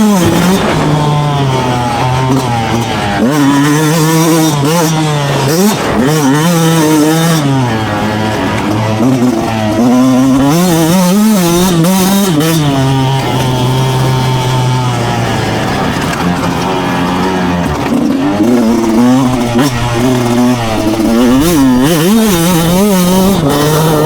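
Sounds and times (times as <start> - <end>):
two-stroke engine revving: 0.0 - 24.0.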